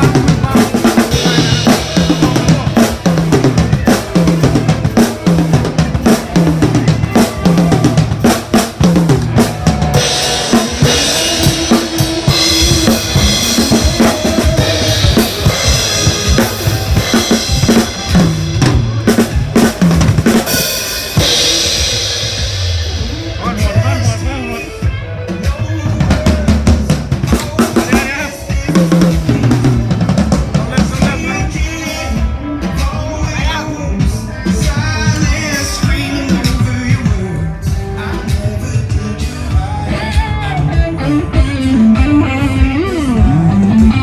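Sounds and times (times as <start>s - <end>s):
drum kit playing beat: 0.0s - 44.0s.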